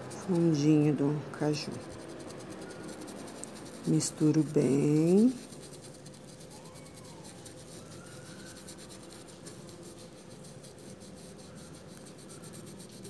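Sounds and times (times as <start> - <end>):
paintbrush scrubbing rubber mat: 0.0 - 13.0.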